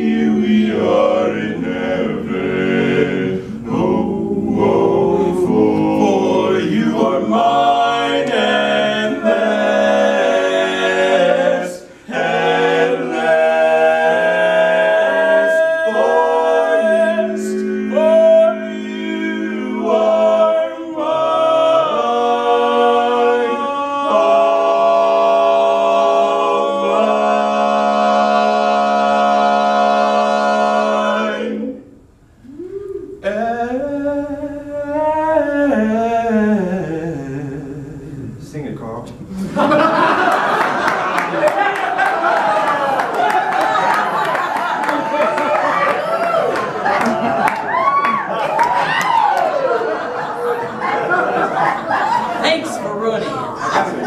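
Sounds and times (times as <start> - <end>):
male quartet singing in harmony: 0.0 - 38.4, 39.4 - 45.2.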